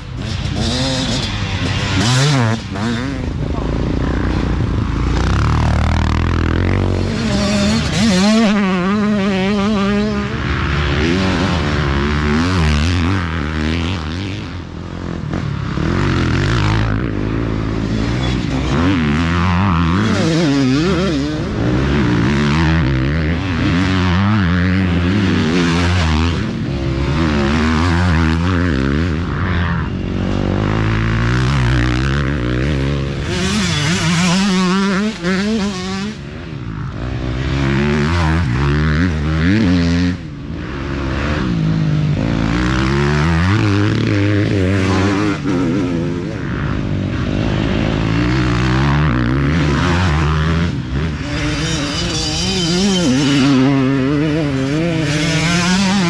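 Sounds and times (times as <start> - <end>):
dirt bikes revving past: 0.0 - 56.0.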